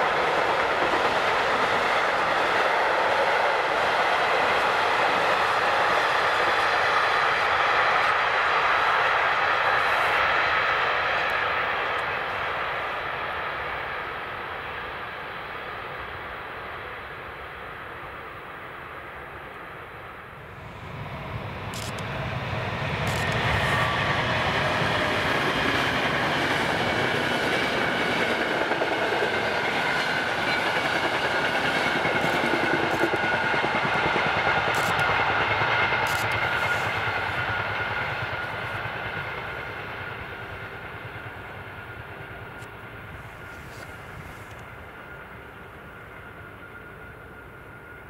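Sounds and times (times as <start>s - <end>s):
train wheels on rails: 0.0s - 48.0s.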